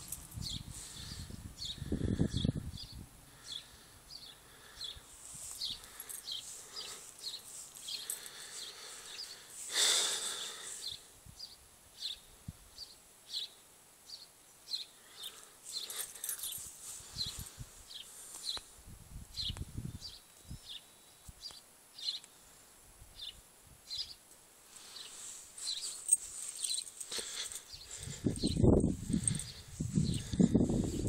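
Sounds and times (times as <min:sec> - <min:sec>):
small birds chirping: 0:00.0 - 0:22.4, 0:23.1 - 0:31.0.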